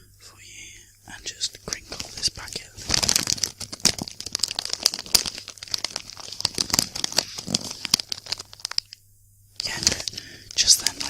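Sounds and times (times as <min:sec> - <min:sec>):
crisp packet crinkling: 0:01.3 - 0:09.0, 0:09.6 - 0:11.0.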